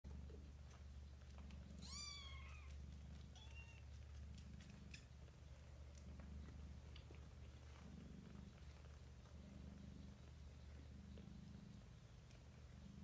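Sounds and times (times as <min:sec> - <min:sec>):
cats purring: 0:00.0 - 0:13.0.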